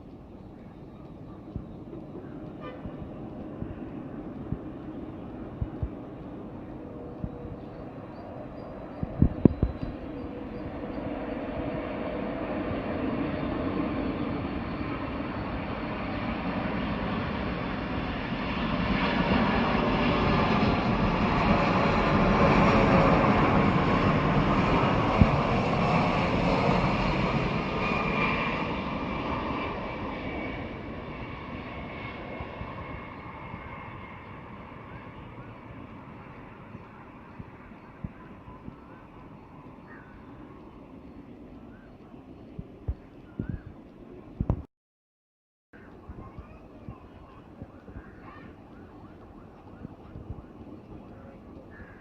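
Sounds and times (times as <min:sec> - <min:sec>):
jet airliner engine roar: 0:00.0 - 0:44.6, 0:45.8 - 0:52.0.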